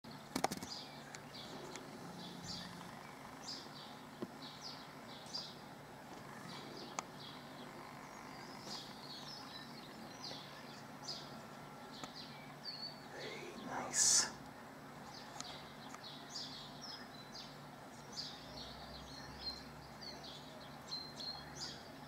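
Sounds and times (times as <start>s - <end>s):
faint steady low hum: 0.1s - 22.0s
small birds chirping: 0.1s - 22.0s.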